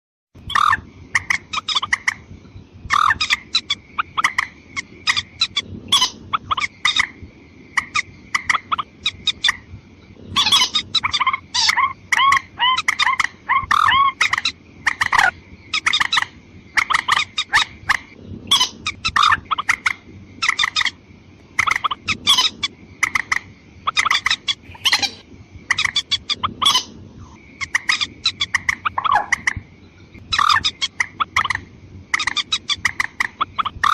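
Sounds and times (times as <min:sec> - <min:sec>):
rail bird calls: 0:00.4 - 0:33.9.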